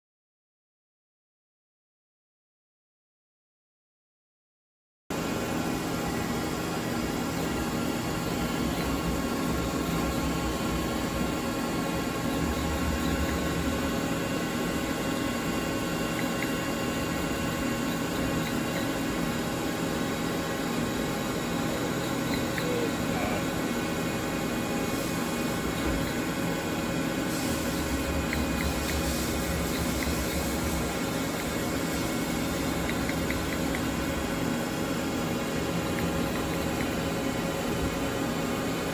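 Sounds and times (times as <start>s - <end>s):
lathe machine humming: 5.2s - 38.9s.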